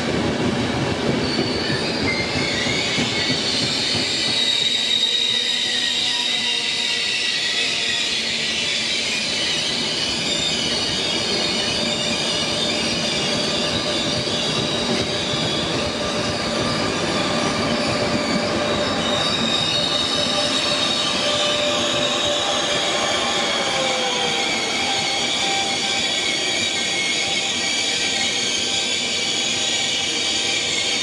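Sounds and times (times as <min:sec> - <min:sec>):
train wheels squealing on rails: 0:00.0 - 0:31.0.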